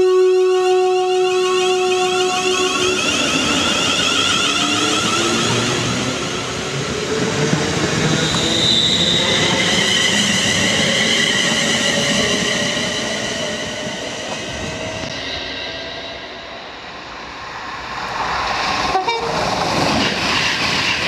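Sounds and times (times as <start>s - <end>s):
train high whine: 0.0s - 21.0s
train wheels rushing on rail: 2.6s - 21.0s.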